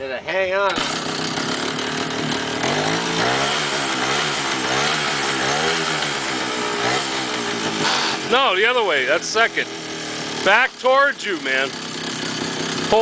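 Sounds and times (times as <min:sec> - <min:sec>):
small motorcycle engine revving: 0:00.8 - 0:13.0.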